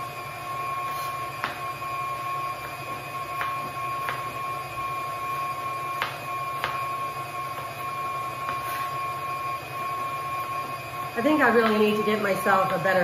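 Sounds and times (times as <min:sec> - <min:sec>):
high-pitched background hum: 0:00.0 - 0:13.0.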